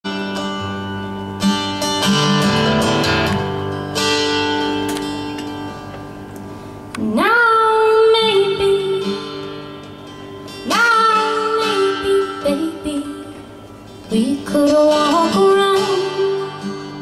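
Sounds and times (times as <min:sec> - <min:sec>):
guitar accompaniment: 0:00.0 - 0:17.0.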